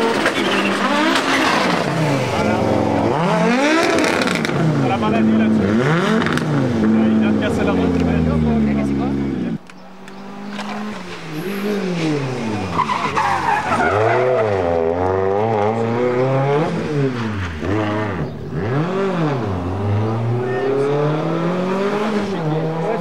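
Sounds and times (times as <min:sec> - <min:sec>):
rally car engine revving: 0:00.0 - 0:23.0
tyres skidding on loose surface: 0:00.0 - 0:23.0.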